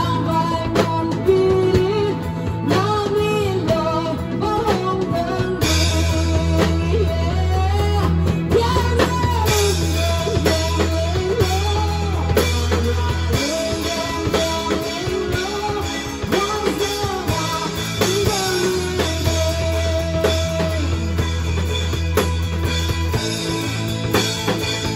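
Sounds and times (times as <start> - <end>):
woman singing into microphone: 0.0 - 21.2
bass guitar: 0.0 - 24.9
drum kit: 0.0 - 24.9
electric keyboard: 0.0 - 24.9.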